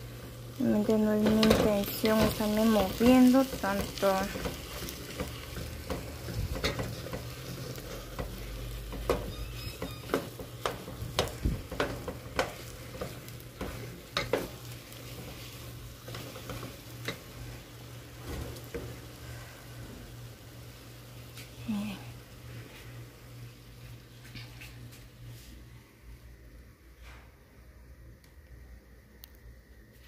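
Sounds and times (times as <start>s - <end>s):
hot pot sizzling: 0.0s - 24.1s.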